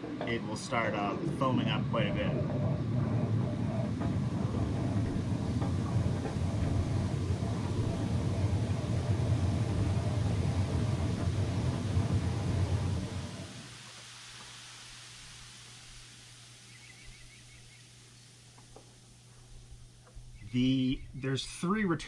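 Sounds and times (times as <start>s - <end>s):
hot tub jets churning water: 0.0s - 22.0s.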